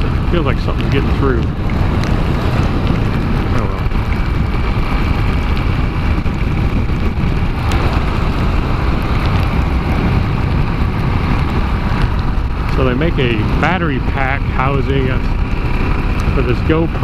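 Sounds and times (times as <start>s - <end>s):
motorcycle engine rumble: 0.0s - 17.0s
raindrops ticking on camera: 0.0s - 17.0s
wind and road noise: 0.0s - 17.0s.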